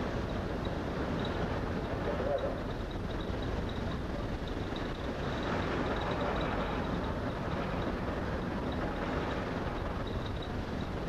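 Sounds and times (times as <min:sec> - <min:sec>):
ferry engines rumbling: 0:00.0 - 0:11.0.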